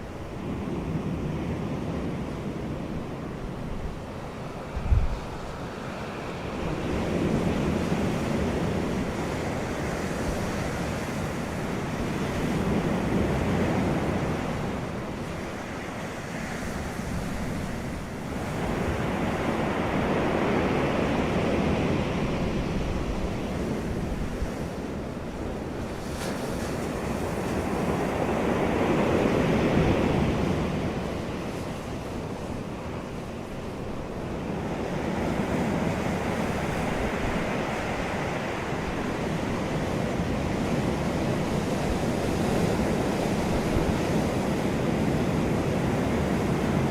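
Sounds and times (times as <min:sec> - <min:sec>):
wind blowing across microphone: 0:00.0 - 0:46.9.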